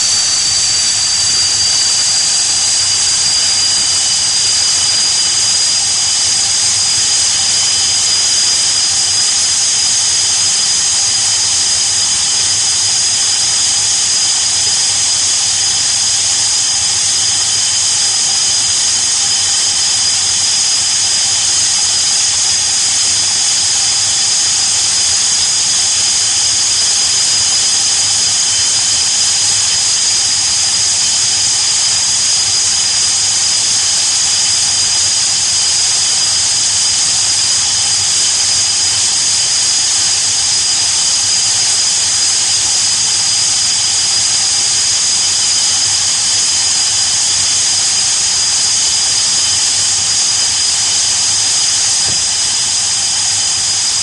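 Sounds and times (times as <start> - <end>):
jet engine idling whine: 0.0 - 54.0.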